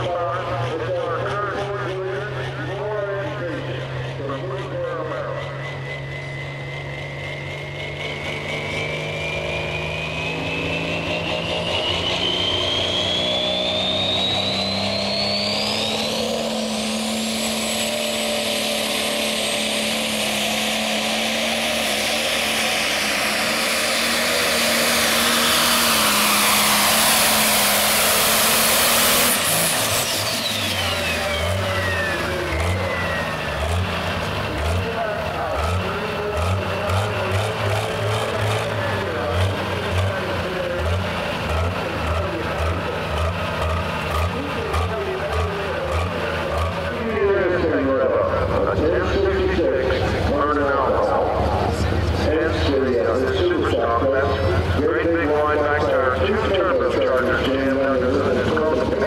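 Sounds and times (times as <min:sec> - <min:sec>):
diesel tractor engine under load: 0:00.0 - 0:59.0
turbo whine: 0:01.6 - 0:59.0.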